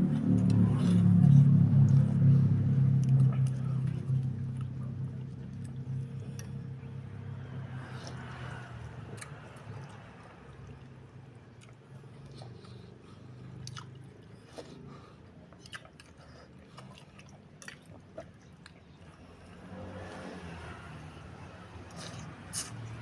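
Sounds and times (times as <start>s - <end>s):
chewing and biting food: 0.0s - 7.0s, 7.7s - 20.4s, 21.8s - 23.0s
steady low hum: 0.0s - 19.8s.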